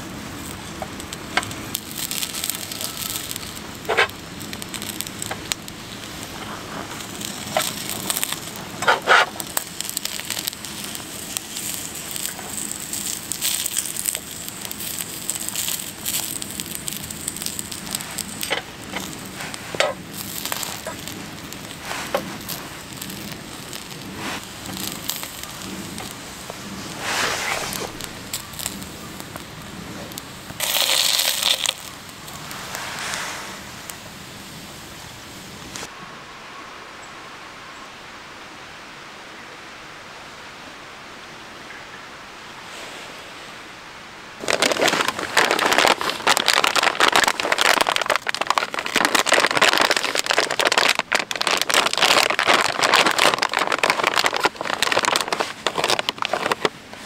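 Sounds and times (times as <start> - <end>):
dry wood crackling and snapping: 0.0 - 33.2, 44.4 - 57.0.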